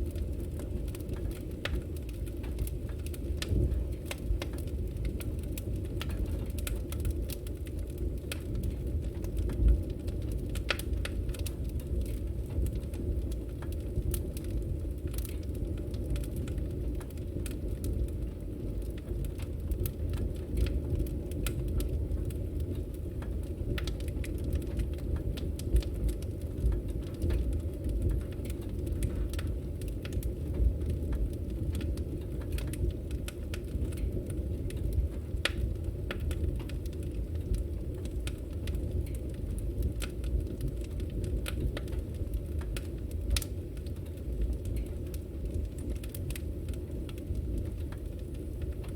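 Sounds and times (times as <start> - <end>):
low rush of flame: 0.0 - 48.9
wood crackling and popping: 0.0 - 48.9.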